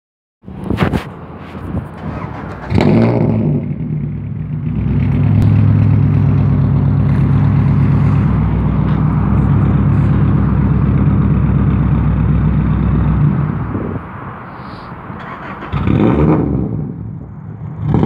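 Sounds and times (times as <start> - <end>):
car engine revving and idling: 1.4 - 14.0, 15.2 - 18.0.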